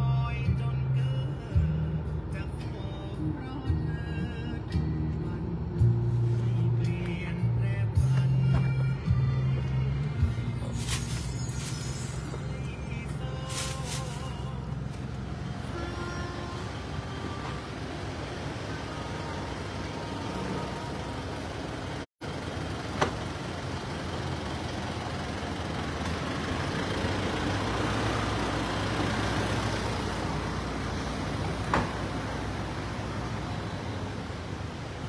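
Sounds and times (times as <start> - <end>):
low rumbling car park noise: 0.0 - 35.0.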